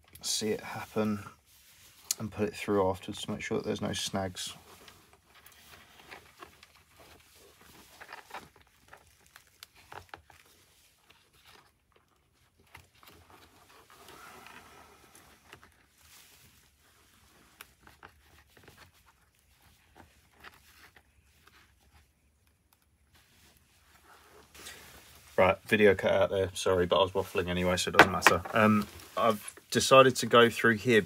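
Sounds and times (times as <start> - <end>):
faint rustling: 0.4 - 31.0.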